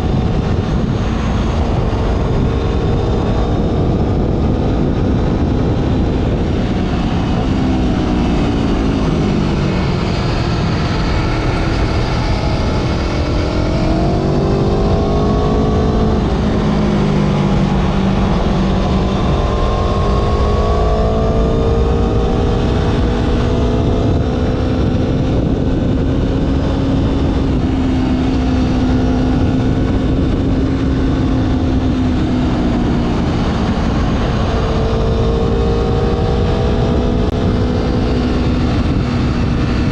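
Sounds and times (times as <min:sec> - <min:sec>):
motorcycle engine revving: 0:00.0 - 0:39.9
rush of noise: 0:00.0 - 0:39.9.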